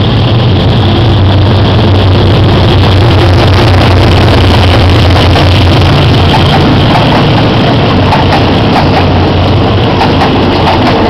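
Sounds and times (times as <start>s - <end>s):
diesel locomotive passing: 0.0s - 11.0s.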